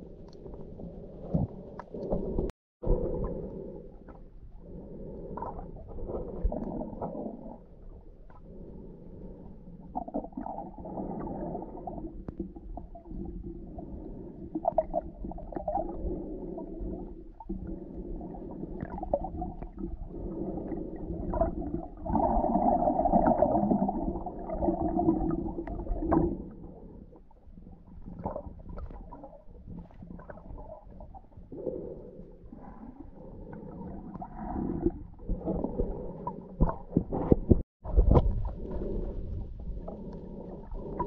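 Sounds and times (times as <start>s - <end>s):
muffled underwater rumbling: 0.0s - 41.0s.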